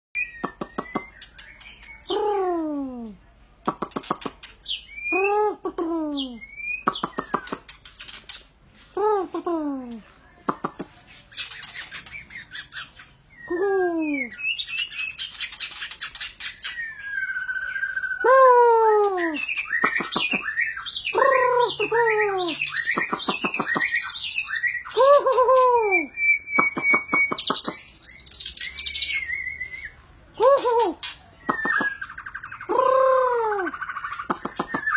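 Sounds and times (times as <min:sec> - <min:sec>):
songbird singing whistled song: 0:00.2 - 0:02.8, 0:04.0 - 0:05.5, 0:06.1 - 0:08.5, 0:10.0 - 0:34.9.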